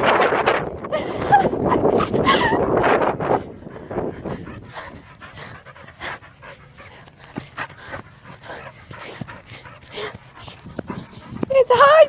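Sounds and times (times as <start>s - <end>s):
dog panting: 0.7s - 12.0s.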